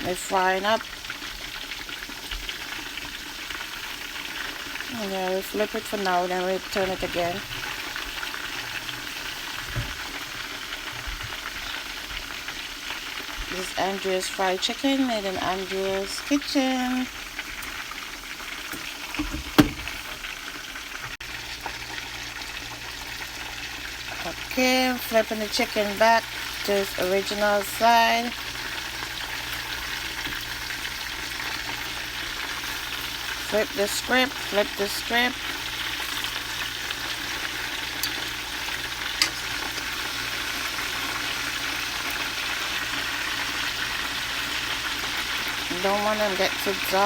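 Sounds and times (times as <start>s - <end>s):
chicken sizzling in hot oil: 0.0s - 47.0s.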